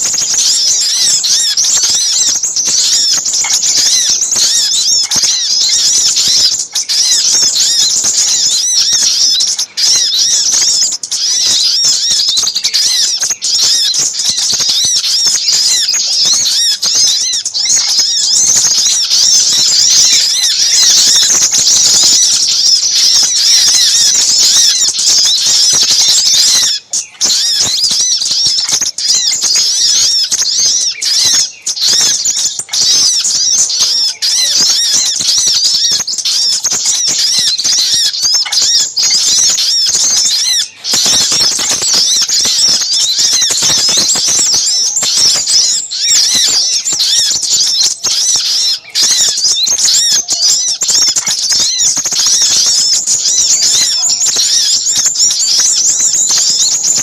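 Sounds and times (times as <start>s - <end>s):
chorus of small birds chirping: 0.0s - 57.0s.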